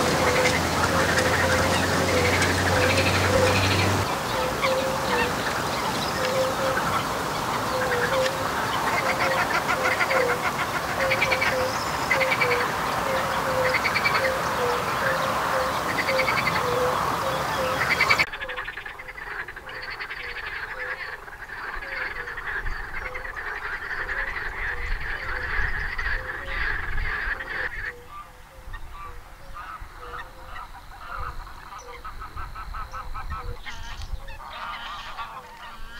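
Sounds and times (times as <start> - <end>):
frogs calling: 0.0 - 35.9.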